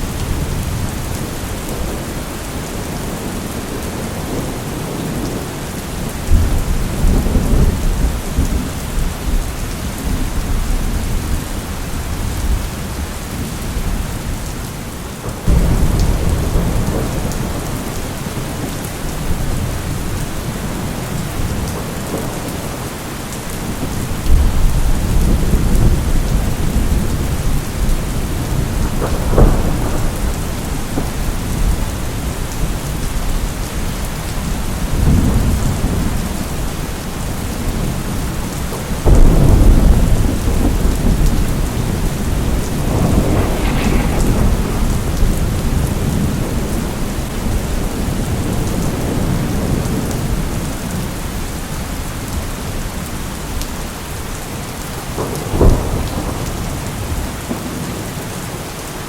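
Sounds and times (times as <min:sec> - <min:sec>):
thunder rumbling and cracking: 0:00.0 - 0:58.6
steady rain: 0:00.0 - 0:59.0.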